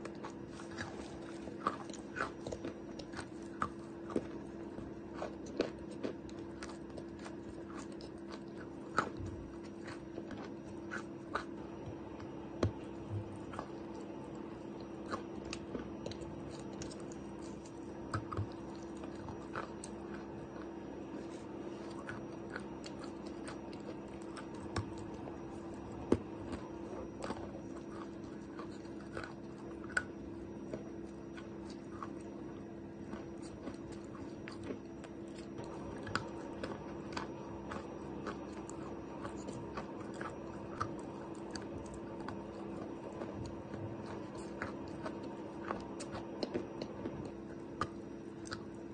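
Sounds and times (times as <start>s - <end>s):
chalk being chewed: 0.0s - 48.9s
steady low hum: 0.0s - 48.9s.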